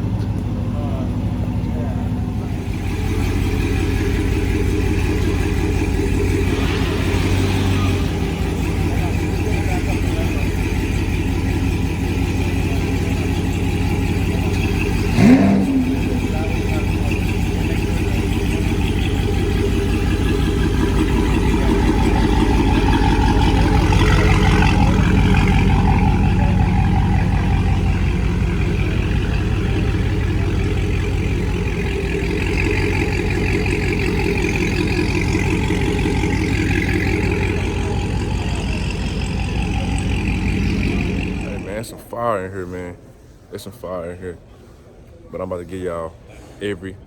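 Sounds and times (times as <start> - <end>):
car engine rumbling: 0.0 - 46.3.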